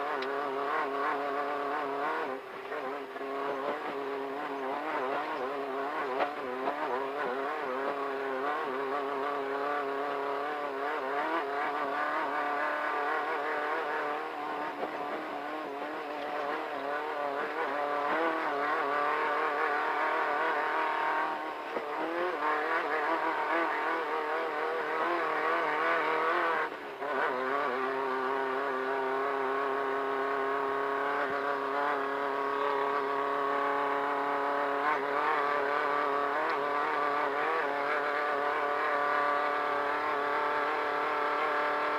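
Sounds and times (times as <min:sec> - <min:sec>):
race car engine running hard: 0:00.0 - 0:41.9.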